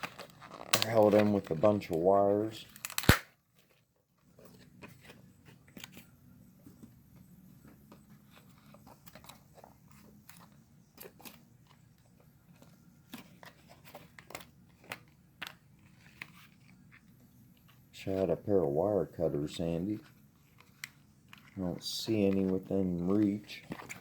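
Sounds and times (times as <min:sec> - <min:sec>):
plastic packaging clicks and crinkles: 0:00.0 - 0:06.1, 0:07.6 - 0:18.2, 0:19.8 - 0:24.0.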